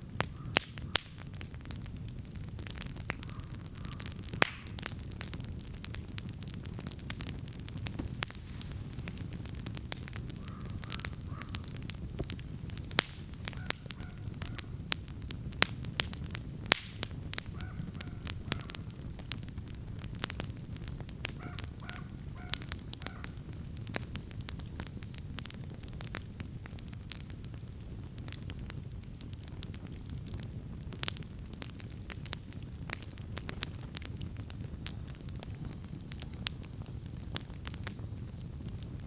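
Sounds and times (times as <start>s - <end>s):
campfire crackling and popping: 0.0s - 39.0s
flame rushing: 0.2s - 39.0s.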